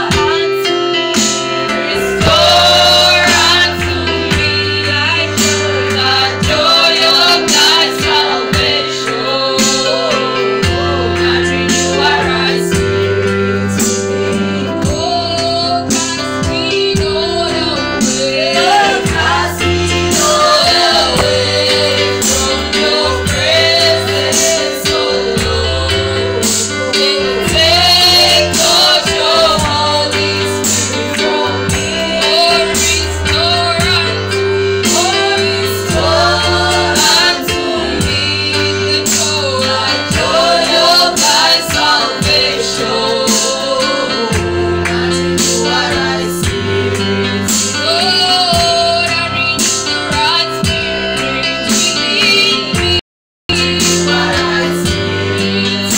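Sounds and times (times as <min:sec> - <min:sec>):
gospel singing over beat and bass: 0:00.0 - 0:55.9.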